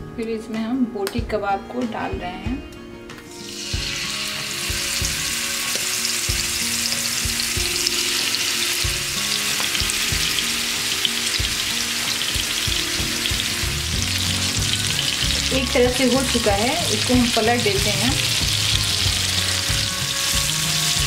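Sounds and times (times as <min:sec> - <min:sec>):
meat sizzling in hot oil: 0:03.4 - 0:21.0.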